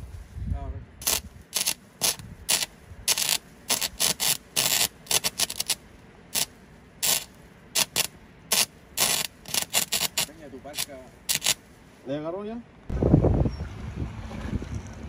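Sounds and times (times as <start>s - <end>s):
scraping crunching noises: 0.0s - 12.1s.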